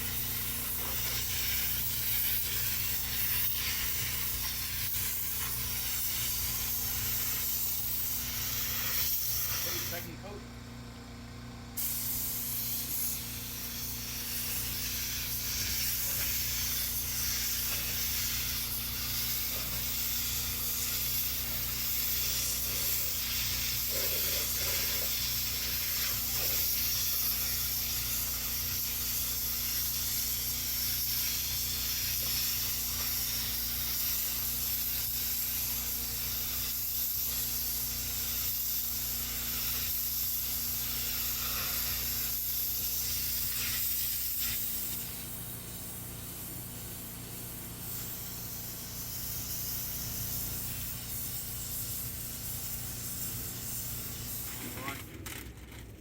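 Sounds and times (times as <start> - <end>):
paint spray gun hissing: 0.0 - 10.2, 11.8 - 55.0.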